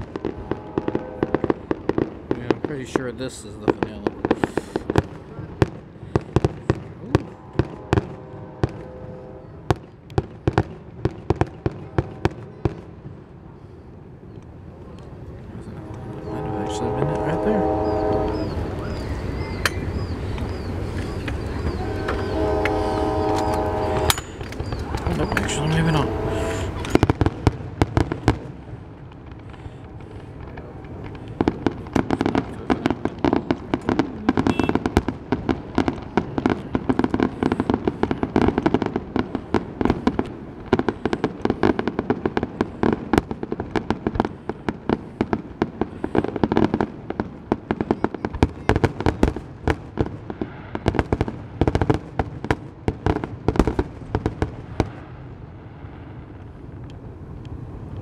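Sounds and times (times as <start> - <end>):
firework shells bursting: 0.0 - 13.2, 15.7 - 55.3.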